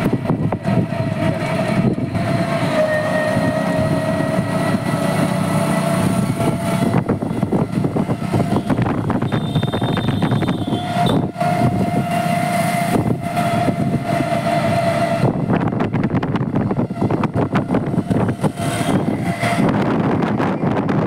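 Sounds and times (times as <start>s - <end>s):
steady whining tone: 0.0s - 21.0s
vehicle engine and road noise: 0.0s - 21.0s.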